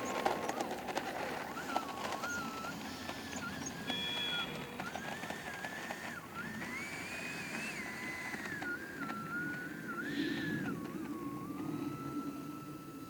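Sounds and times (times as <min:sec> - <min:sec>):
electric ducted fan whining: 0:00.0 - 0:13.0.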